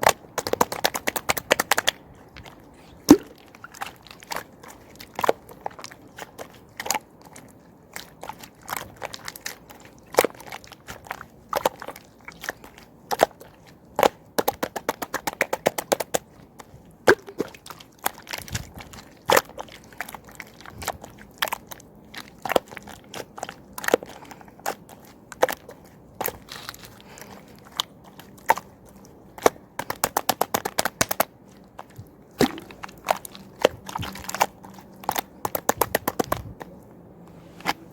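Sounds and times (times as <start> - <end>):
slime clicking and popping: 0.0 - 2.0, 3.0 - 7.4, 8.0 - 26.9, 27.6 - 36.5.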